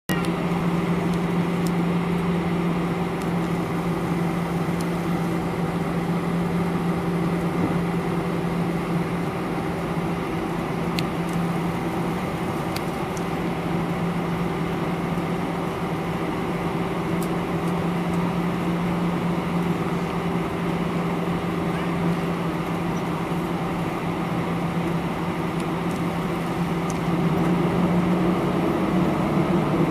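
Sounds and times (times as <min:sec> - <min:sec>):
aircraft cabin engine drone: 0:00.1 - 0:29.9.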